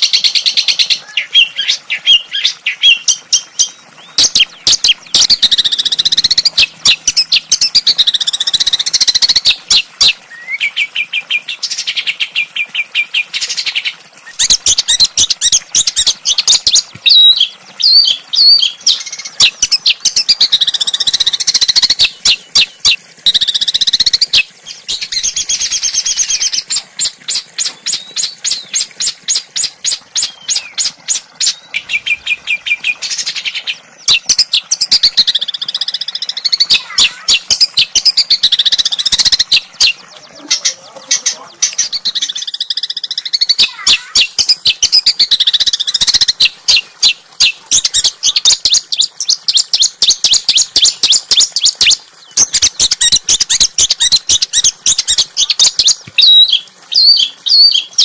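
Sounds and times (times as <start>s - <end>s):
small songbirds singing: 0.0s - 58.0s.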